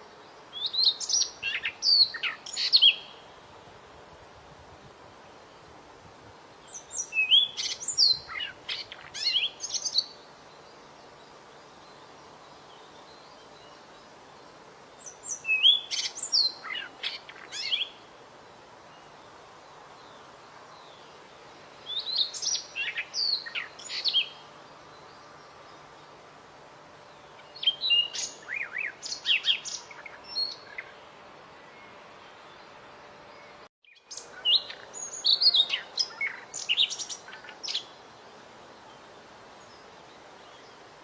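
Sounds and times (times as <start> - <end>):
songbird singing whistled notes: 0.0 - 3.3, 6.6 - 26.2, 27.0 - 31.0, 31.6 - 38.0
faint steady hiss: 0.0 - 41.0.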